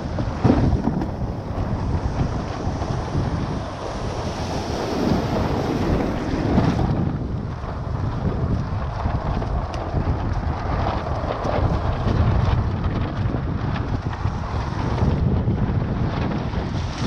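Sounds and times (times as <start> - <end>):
surf washing: 0.0 - 17.0
wind buffeting microphone: 0.0 - 17.0.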